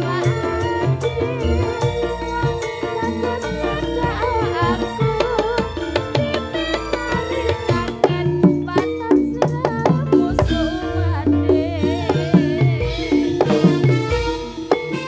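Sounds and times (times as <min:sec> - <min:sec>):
drums and percussion beating: 0:00.0 - 0:15.0
wavering melody line: 0:00.0 - 0:15.0.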